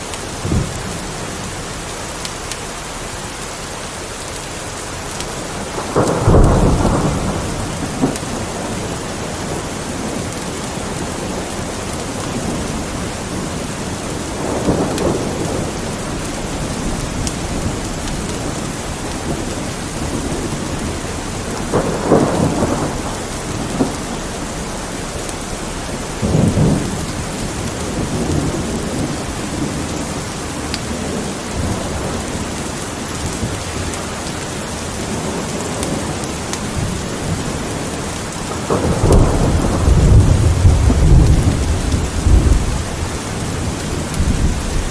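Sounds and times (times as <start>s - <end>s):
steady rain: 0.0s - 44.9s
thunder rolling: 0.3s - 1.4s, 5.4s - 44.9s.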